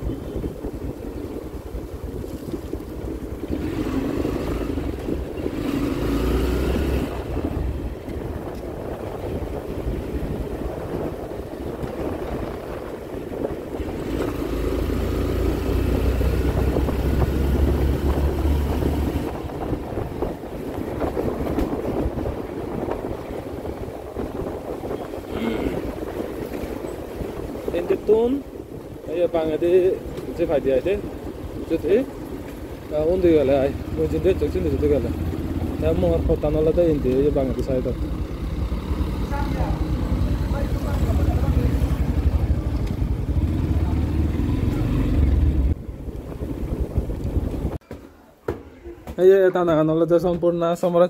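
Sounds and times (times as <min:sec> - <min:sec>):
wind buffeting microphone: 0:00.0 - 0:47.9
motorcycle engine accelerating: 0:02.6 - 0:27.8, 0:29.6 - 0:47.8.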